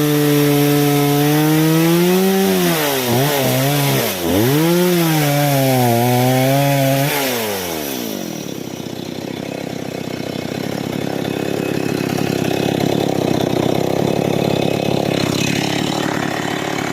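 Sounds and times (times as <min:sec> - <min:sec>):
chainsaw revving and idling: 0:00.0 - 0:16.9.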